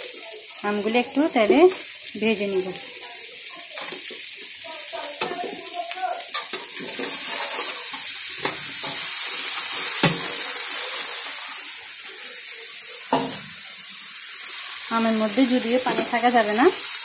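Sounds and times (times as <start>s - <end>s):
mango slices sizzling in oil: 0.0s - 17.0s.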